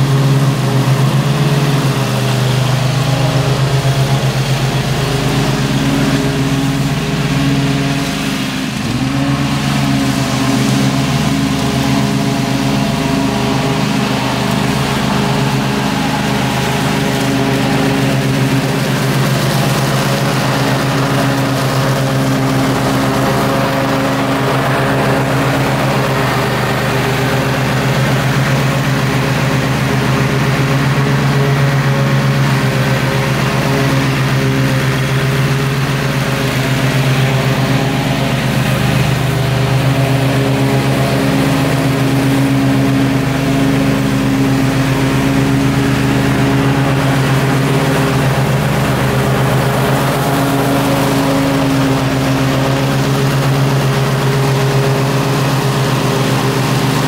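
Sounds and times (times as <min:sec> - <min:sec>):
riding mower engine hum: 0:00.0 - 0:57.0.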